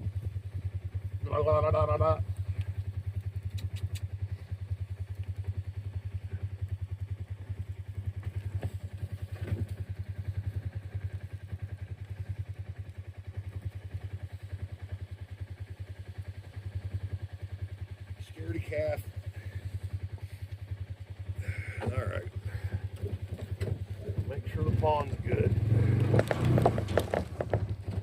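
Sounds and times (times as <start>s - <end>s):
engine chugging: 0.0s - 28.0s.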